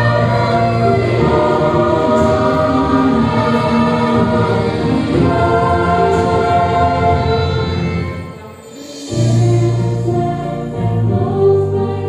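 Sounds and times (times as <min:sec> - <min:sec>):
choir singing in harmony: 0:00.0 - 0:12.0.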